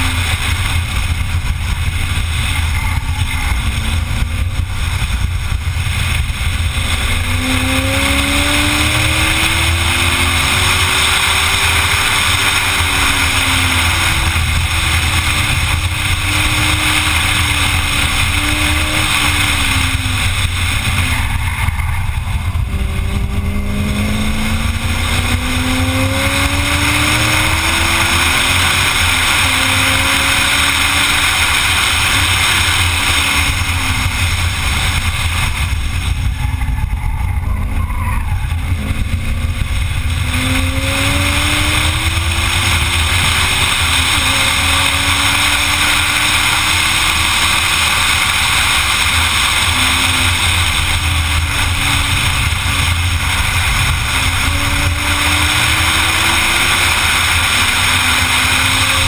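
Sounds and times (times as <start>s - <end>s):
race car engine accelerating: 0.0s - 59.0s
wind rush over microphone: 0.0s - 59.0s.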